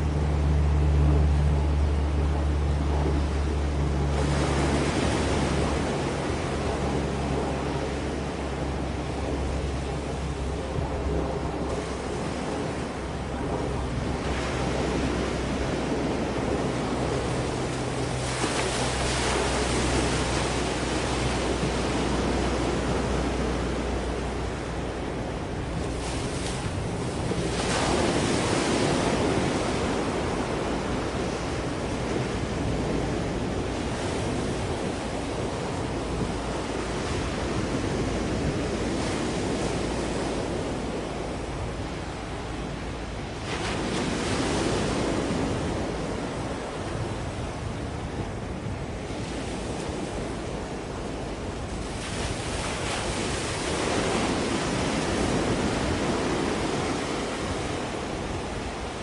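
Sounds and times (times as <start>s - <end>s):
sea waves washing on shore: 0.0s - 59.0s
wind buffeting microphone: 0.0s - 59.0s.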